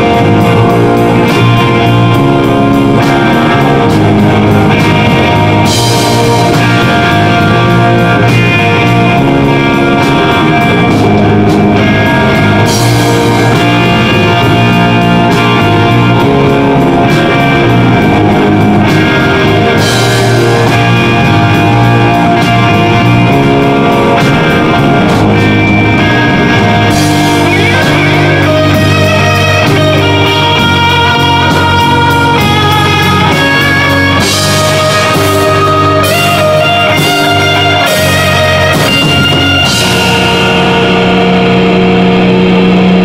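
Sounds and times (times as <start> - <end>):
metal band playing: 0.0 - 43.0.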